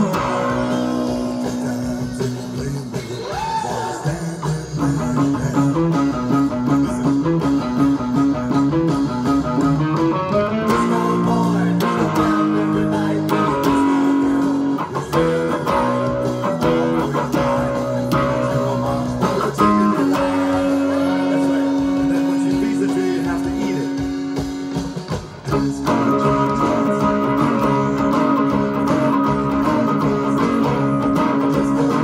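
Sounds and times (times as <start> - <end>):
electric guitar melody: 0.0 - 32.0.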